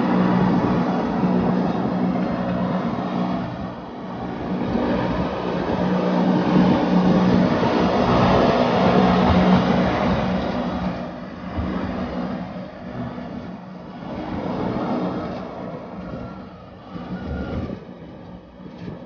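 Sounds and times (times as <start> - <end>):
rushing noise: 0.0 - 18.2
train running: 0.0 - 19.0.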